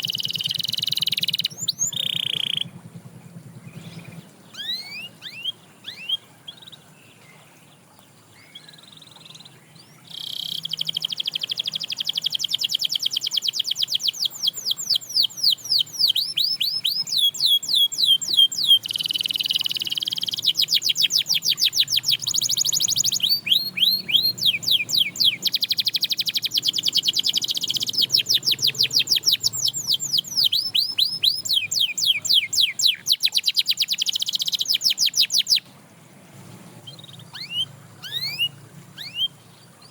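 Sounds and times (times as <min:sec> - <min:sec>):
canary singing trills: 0:00.0 - 0:07.2, 0:07.8 - 0:35.7, 0:36.8 - 0:39.9
faint bird chirps: 0:00.0 - 0:35.7, 0:36.8 - 0:39.9.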